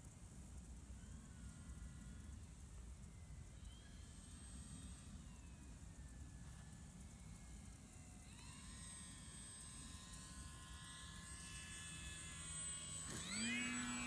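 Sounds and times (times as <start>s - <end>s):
model plane motor buzzing: 0.6s - 14.0s.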